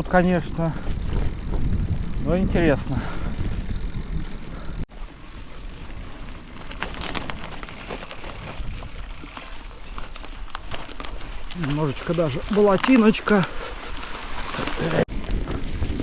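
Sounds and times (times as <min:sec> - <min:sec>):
bicycle tyres on muddy track: 0:00.0 - 0:16.0
small clicks and crackles: 0:00.6 - 0:16.0.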